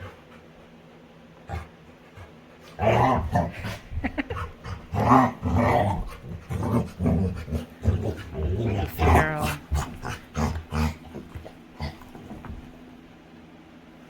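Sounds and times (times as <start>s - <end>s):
dog making play noises: 0.0s - 12.8s.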